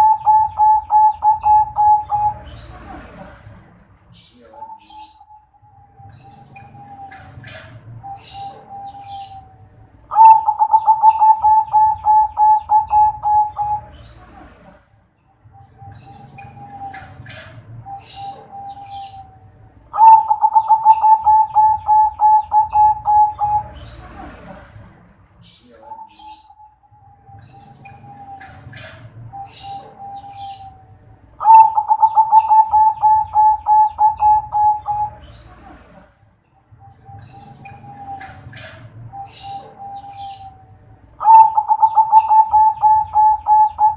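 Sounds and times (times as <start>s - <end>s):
dove cooing: 0.0s - 3.6s, 4.2s - 14.8s, 15.6s - 24.8s, 25.5s - 36.1s, 36.8s - 43.9s
small birds chirping: 0.0s - 43.9s.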